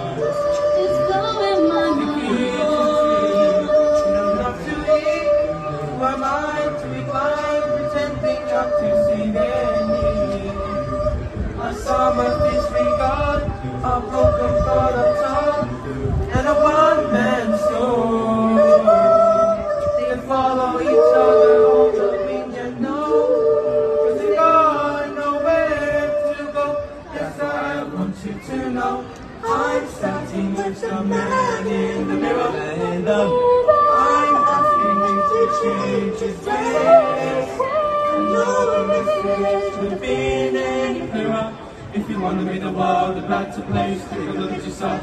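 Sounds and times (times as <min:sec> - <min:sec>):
choir singing a cappella: 0:00.0 - 0:45.0.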